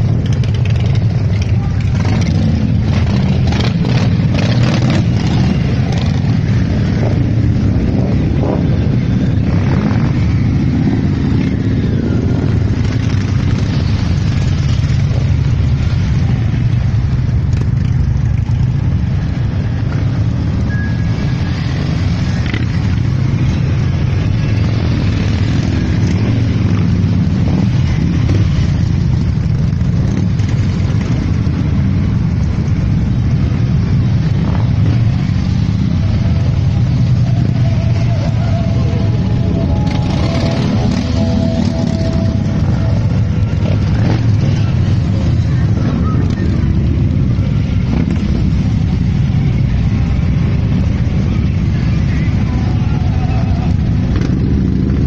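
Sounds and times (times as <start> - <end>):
motorcycle engines rumbling past: 0.0 - 55.0.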